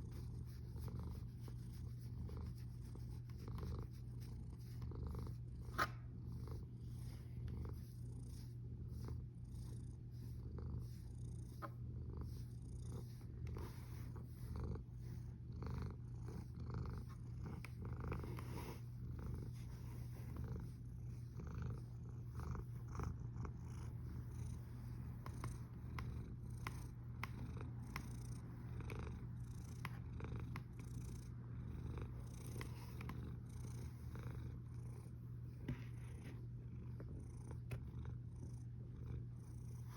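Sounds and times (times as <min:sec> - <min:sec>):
cat snoring rumble: 0:07.6 - 0:39.9.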